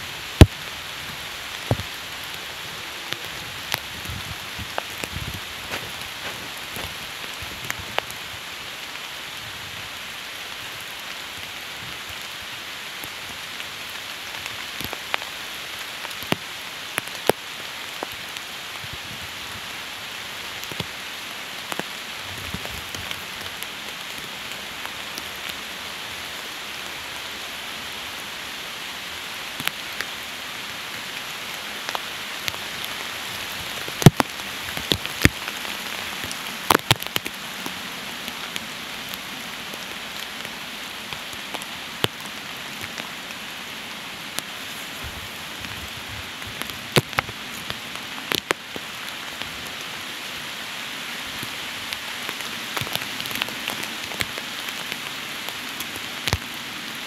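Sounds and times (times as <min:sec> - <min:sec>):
raindrops ticking close by: 0:00.0 - 0:57.0
steady rain hiss: 0:00.0 - 0:57.0.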